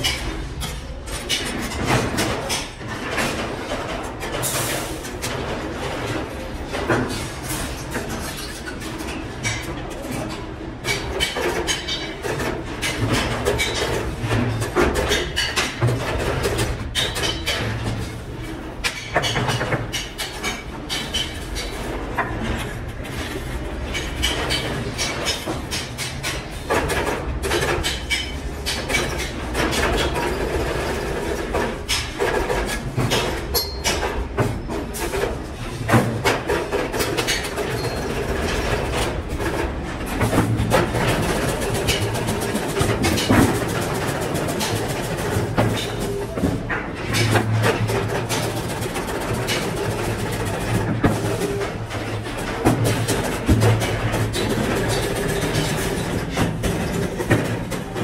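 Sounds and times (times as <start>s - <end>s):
workshop machinery running: 0.0s - 58.0s.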